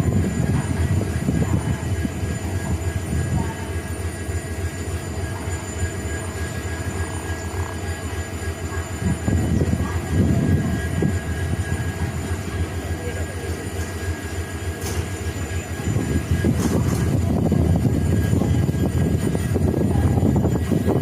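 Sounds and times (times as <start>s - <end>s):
faint high hum: 0.0s - 21.0s
locomotive diesel engines rumbling: 0.0s - 21.0s.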